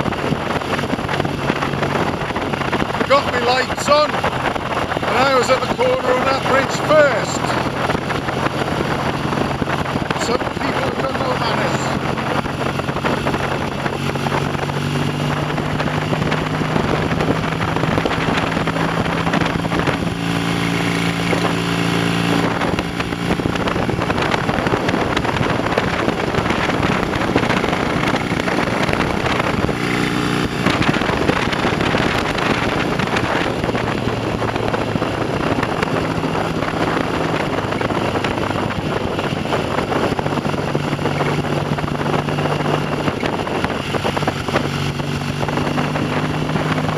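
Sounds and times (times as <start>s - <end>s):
motorcycle engine running: 0.0s - 46.9s
wind noise on microphone: 0.0s - 46.9s.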